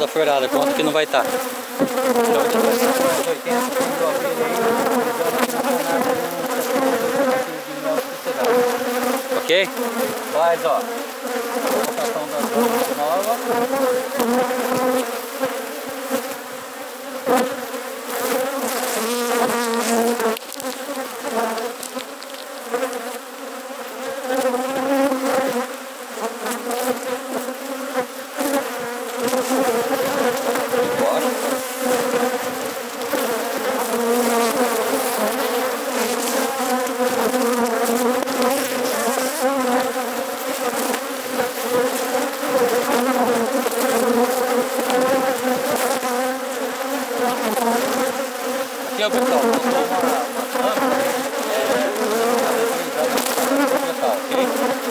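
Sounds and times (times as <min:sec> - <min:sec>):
honeybees buzzing: 0:00.0 - 0:54.9.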